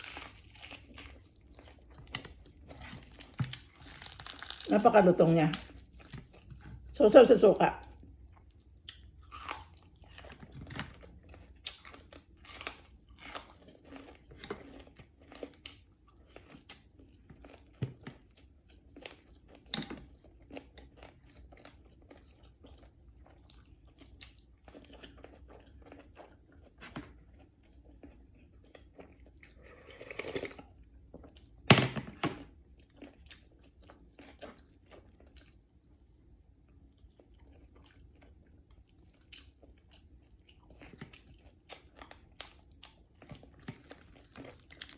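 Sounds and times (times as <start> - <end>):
chewing crispy fried fish: 0.0 - 31.6, 32.4 - 44.9.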